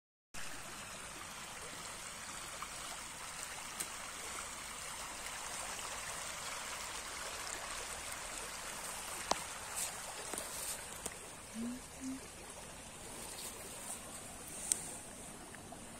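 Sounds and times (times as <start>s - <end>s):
stream babbling over stones: 0.4s - 15.9s.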